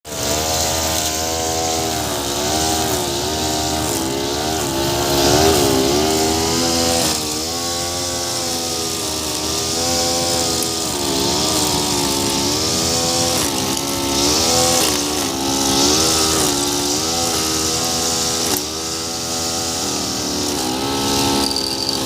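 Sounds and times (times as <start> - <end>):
brush cutter engine cutting grass: 0.0 - 22.0.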